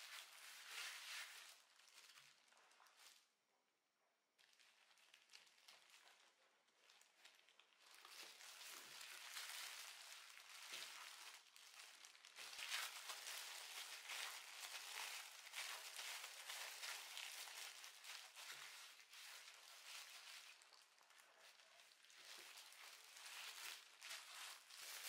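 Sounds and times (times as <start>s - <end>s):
plastic gloves crinkling: 0.0s - 3.4s, 4.3s - 25.0s.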